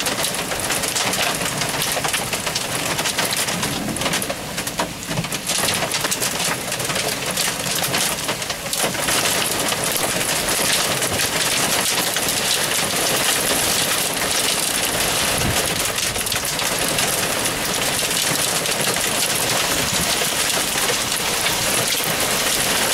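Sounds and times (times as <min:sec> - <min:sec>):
rain beating on window glass: 0:00.0 - 0:22.9.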